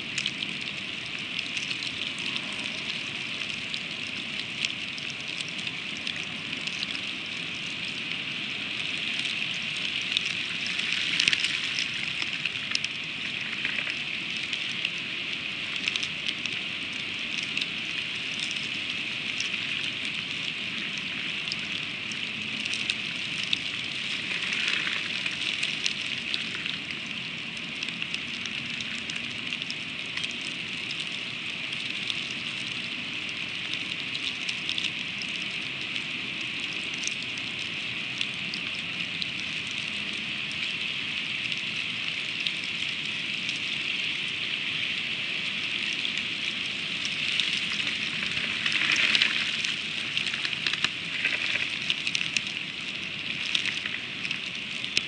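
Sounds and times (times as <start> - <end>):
freezing rain falling: 0.0 - 55.0.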